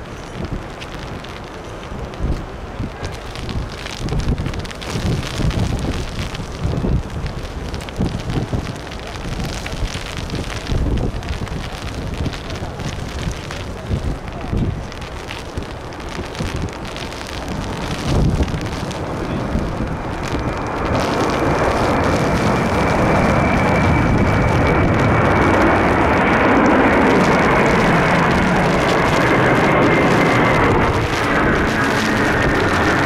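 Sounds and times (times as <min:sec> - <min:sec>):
high engine whine: 0:00.0 - 0:33.0
jet engines roaring: 0:00.0 - 0:33.0
wind buffeting microphone: 0:00.0 - 0:33.0.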